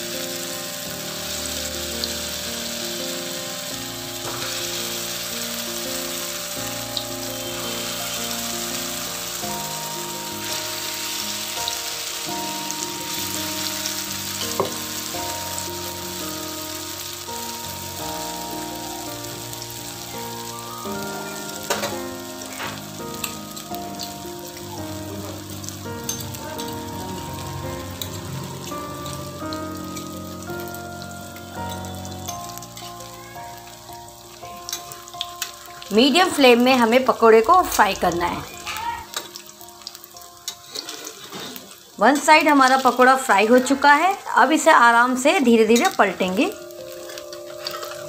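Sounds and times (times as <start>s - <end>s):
deep-frying in hot oil sizzle: 0.0s - 48.0s
soft instrumental music: 0.0s - 48.0s.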